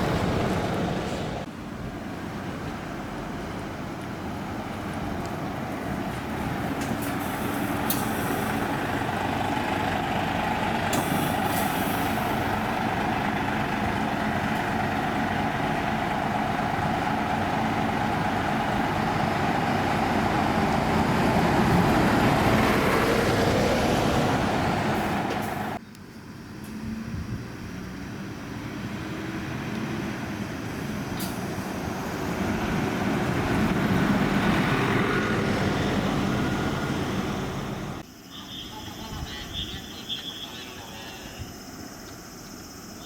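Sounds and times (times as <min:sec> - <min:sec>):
diesel bus passing: 0:00.0 - 0:43.0.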